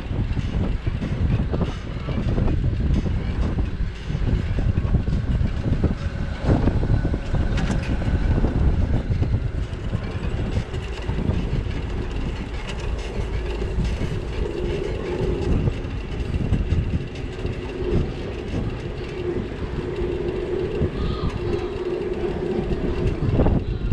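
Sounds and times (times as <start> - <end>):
bicycle rumbling and rattling: 0.0 - 23.9
steady hum: 0.0 - 23.9
traffic noise: 0.0 - 23.9.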